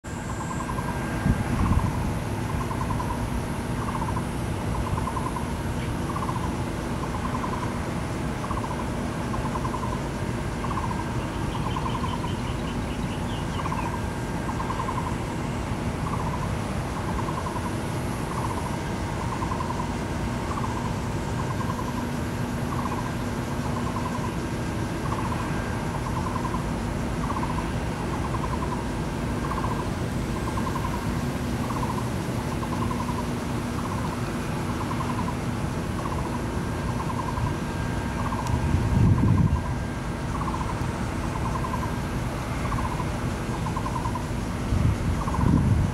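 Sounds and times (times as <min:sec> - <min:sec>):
steady low rumble: 0:00.1 - 0:45.9
bird calling: 0:02.5 - 0:07.8, 0:08.4 - 0:42.0, 0:42.6 - 0:44.4, 0:45.1 - 0:45.6.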